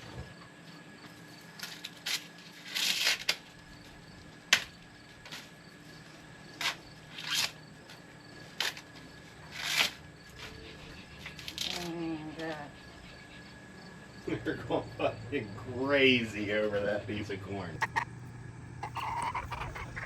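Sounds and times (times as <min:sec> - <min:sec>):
insects chirping faintly: 0:00.0 - 0:20.0.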